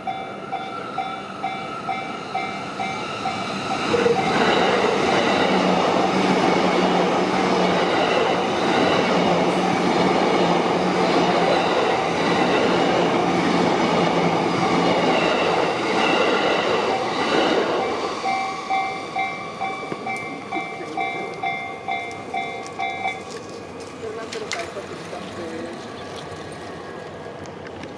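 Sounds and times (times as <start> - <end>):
two-tone crossing warning bell: 0.0 - 10.1, 14.1 - 26.9
electric train passing: 0.0 - 27.9.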